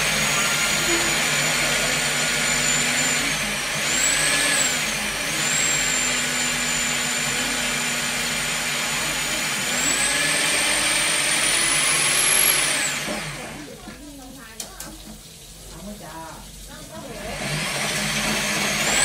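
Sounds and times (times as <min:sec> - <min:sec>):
drain-cleaning machine motor whining: 0:00.0 - 0:14.1, 0:15.7 - 0:19.0.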